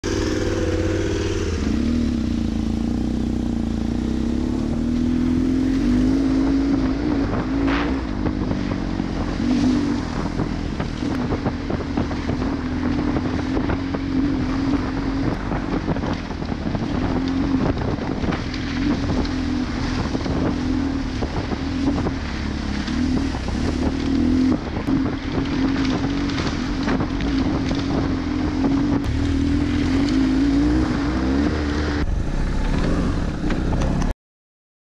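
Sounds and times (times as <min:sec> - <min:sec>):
knocks and rattles on rough dirt: 0:00.0 - 0:34.1
motorcycle engine running: 0:00.0 - 0:34.1
wind buffeting microphone: 0:00.0 - 0:34.1.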